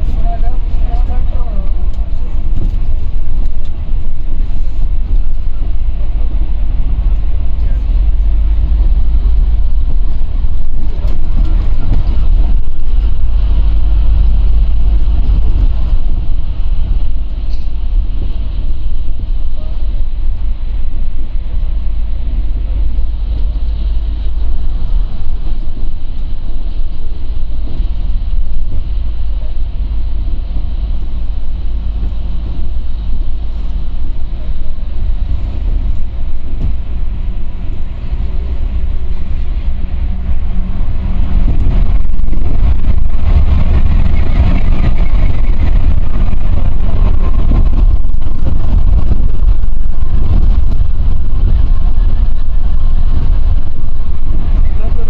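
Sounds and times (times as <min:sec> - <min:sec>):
coach engine and tyres rumbling: 0:00.0 - 0:55.0.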